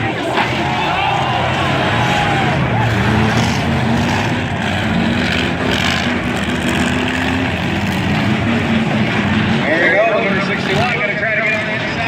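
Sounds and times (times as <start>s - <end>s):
truck engines droning: 0.0s - 12.0s.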